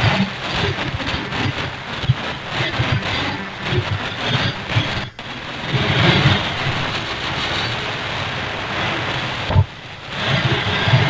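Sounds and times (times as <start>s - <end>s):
radio static: 0.0s - 11.0s
weak radio station: 0.0s - 11.0s.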